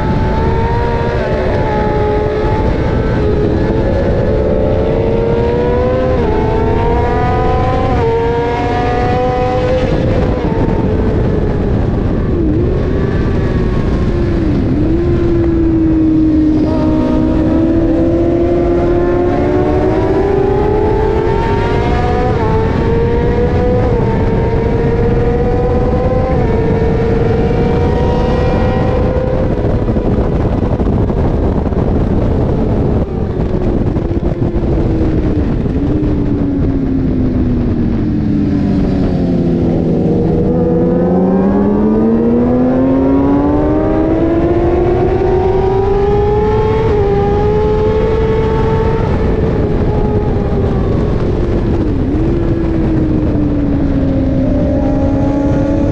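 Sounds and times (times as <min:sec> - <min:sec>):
motorcycle engine revving: 0:00.0 - 0:55.9
wind rush: 0:00.0 - 0:55.9.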